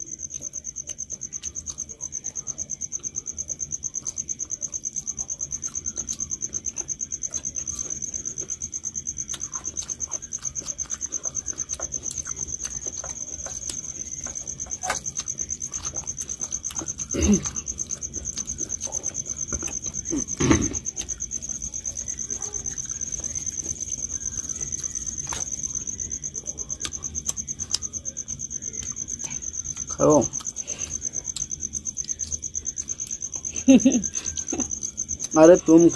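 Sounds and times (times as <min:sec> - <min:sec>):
cricket chirping: 0:00.0 - 0:35.9
people eating by hand: 0:00.0 - 0:35.9.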